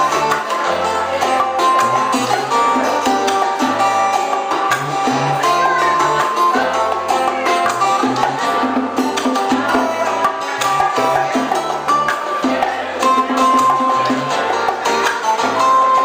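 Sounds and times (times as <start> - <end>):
bass line: 0.0 - 16.0
hand percussion: 0.0 - 16.0
strummed and plucked guitar: 0.0 - 16.0.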